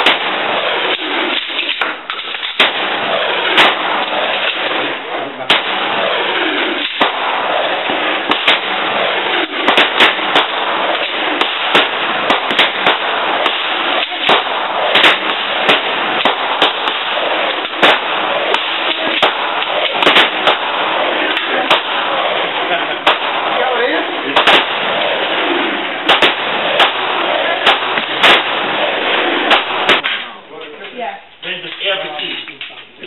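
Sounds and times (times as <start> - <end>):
gunshots: 0.0 - 30.4
steady noisy background: 0.0 - 31.4.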